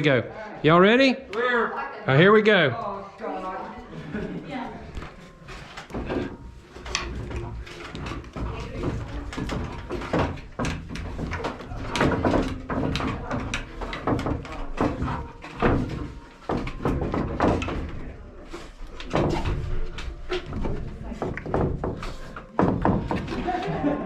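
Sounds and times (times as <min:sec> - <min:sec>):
knocks and thumps of climbing: 0:04.1 - 0:24.0.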